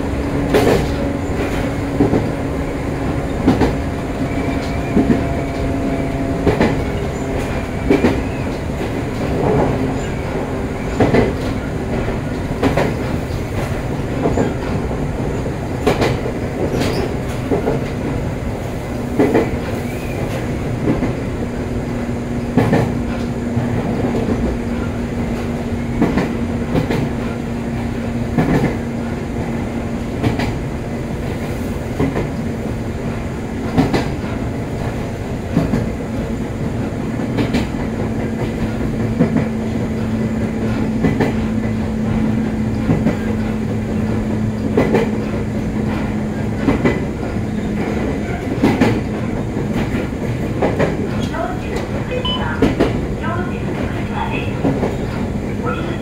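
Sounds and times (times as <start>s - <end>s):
train wheels clacking over rail joints: 0.0s - 55.6s
train rumble: 0.0s - 56.0s.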